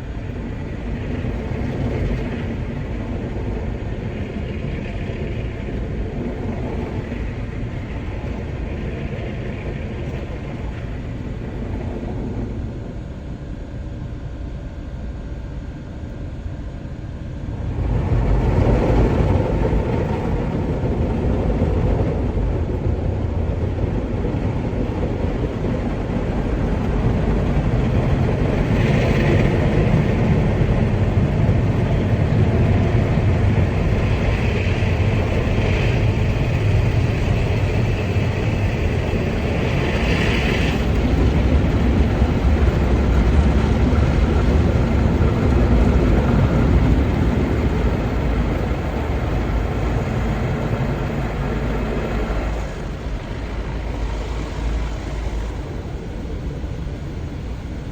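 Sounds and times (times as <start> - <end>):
car wash water and machinery: 0.0 - 57.9.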